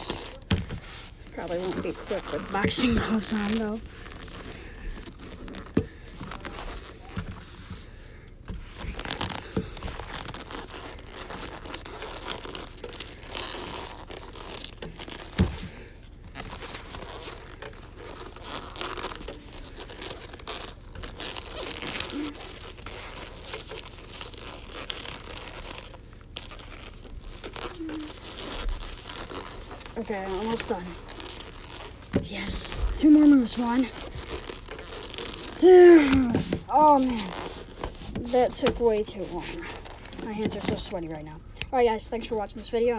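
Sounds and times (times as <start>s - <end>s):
boxing gloves creaking and rubbing: 0.0s - 42.9s.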